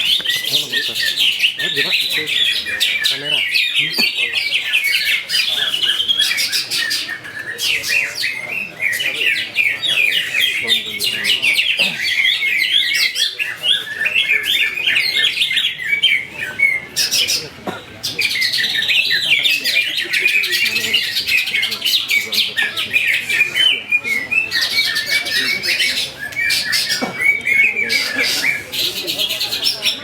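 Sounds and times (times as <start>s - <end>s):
birds chirping and whistling: 0.0s - 30.0s.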